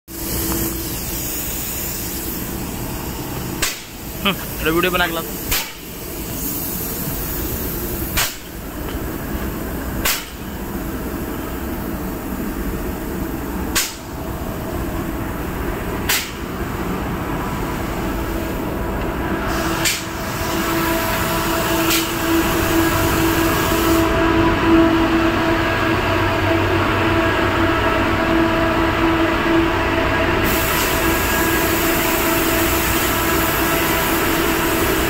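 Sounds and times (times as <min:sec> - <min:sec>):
compressed air spray and blasting: 0:00.1 - 0:24.9, 0:30.4 - 0:35.0
ventilation fan hum: 0:00.1 - 0:35.0.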